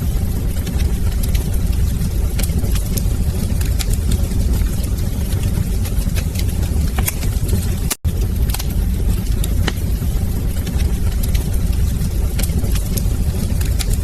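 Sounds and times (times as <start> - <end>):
fire rumbling: 0.0 - 14.0
wood fire popping and snapping: 0.0 - 14.0.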